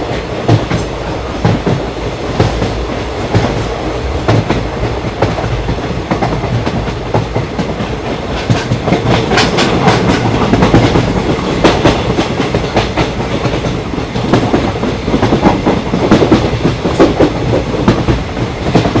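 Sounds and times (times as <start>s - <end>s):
train rumbling on track: 0.0s - 19.0s
wheels clacking over rail joints: 0.0s - 19.0s.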